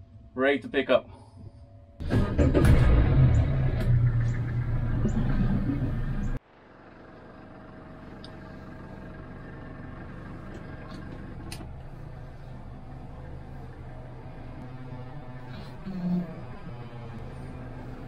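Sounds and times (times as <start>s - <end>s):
loud low hum: 1.2s - 18.0s
boat engine humming: 2.0s - 18.0s.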